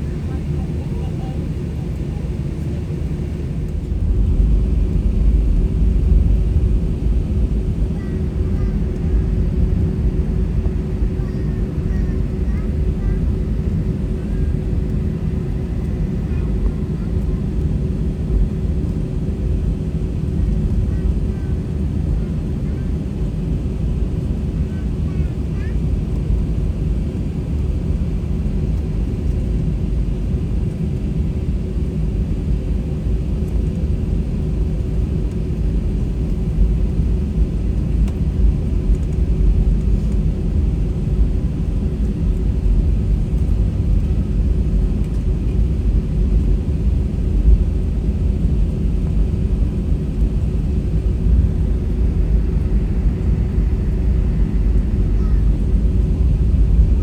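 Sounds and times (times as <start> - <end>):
jet engines idling rumble: 0.0 - 57.0.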